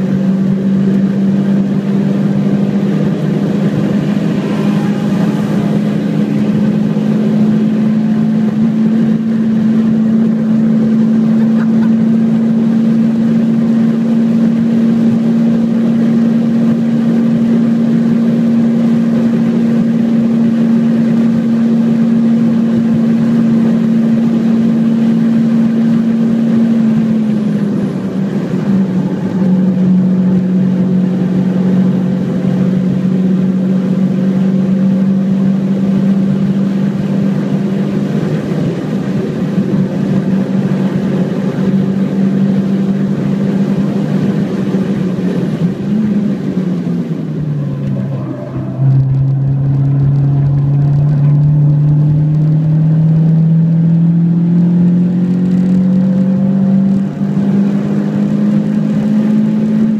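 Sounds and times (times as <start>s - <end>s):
car engine at high revs: 0.0s - 59.9s
road and wind noise: 0.0s - 59.9s.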